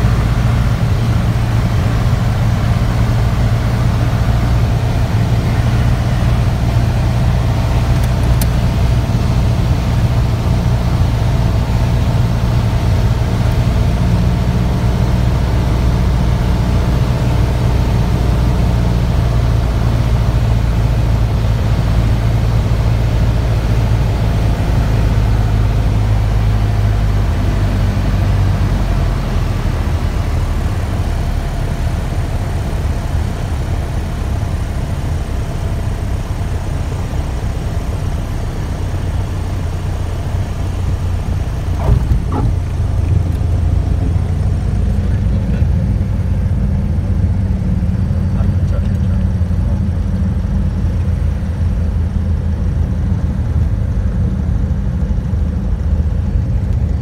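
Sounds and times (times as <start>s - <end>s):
propeller aircraft engine: 0.0s - 57.0s.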